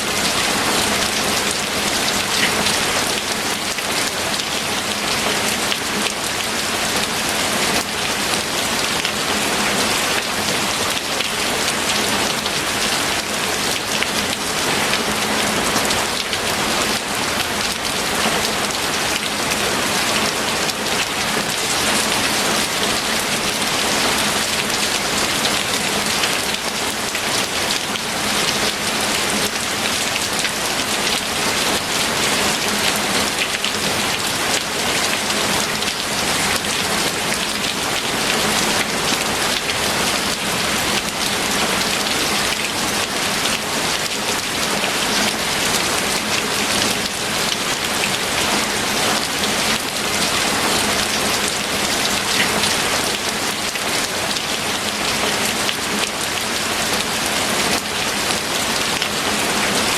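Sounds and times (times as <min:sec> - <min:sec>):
heavy rain on a surface: 0:00.0 - 0:59.9.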